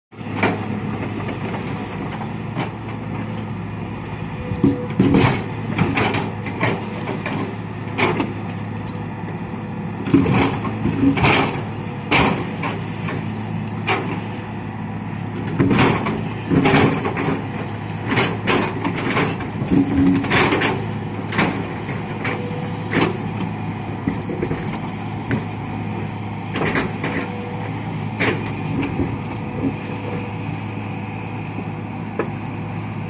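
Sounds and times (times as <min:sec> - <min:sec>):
heavy diesel machinery running: 0:00.1 - 0:33.0.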